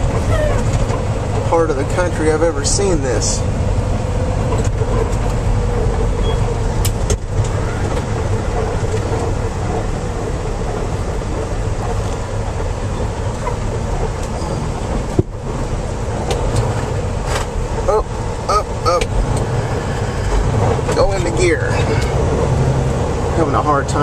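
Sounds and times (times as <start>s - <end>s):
diesel truck engine running: 0.0s - 24.0s
road noise: 0.0s - 24.0s.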